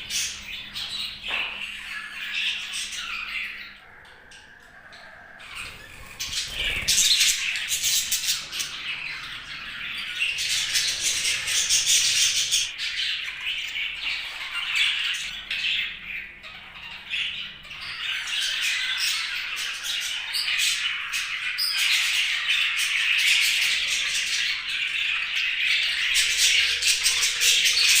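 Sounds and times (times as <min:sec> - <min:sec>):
budgerigars chattering: 0:00.0 - 0:28.0.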